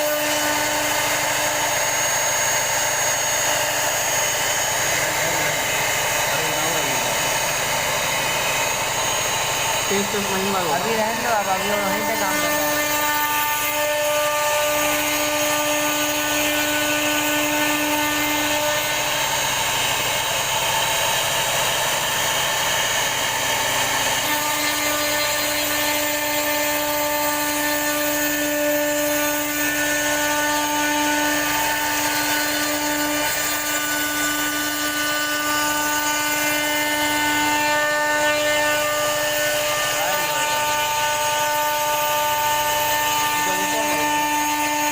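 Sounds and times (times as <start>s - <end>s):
router bit cutting wood: 0.0s - 44.9s
router spindle whine: 0.0s - 44.9s.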